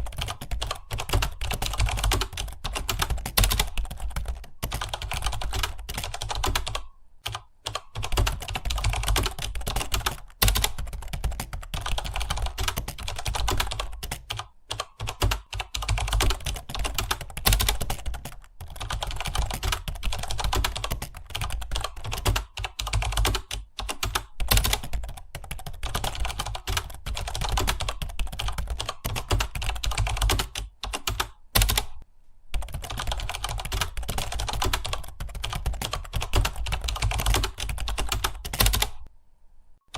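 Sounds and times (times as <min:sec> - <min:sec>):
keyboards typing clatter: 0:00.0 - 0:32.0, 0:32.6 - 0:39.1.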